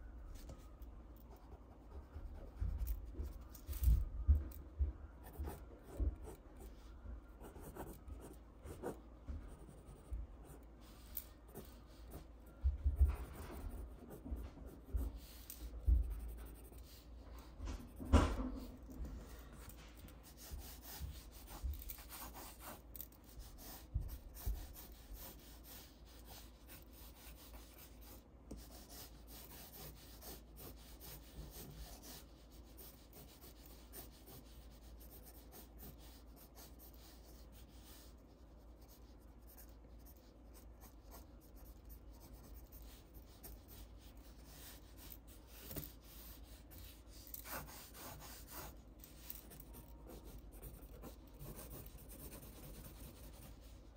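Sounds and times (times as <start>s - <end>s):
pencil scratching on paper: 5.2s - 6.7s, 7.4s - 53.9s.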